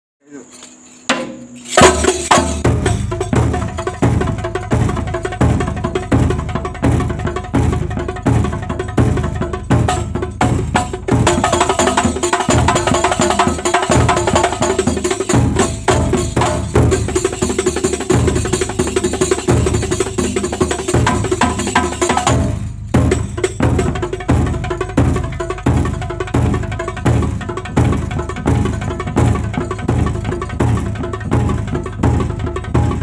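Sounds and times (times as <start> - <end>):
frame drums and percussion playing: 0.3 - 33.0.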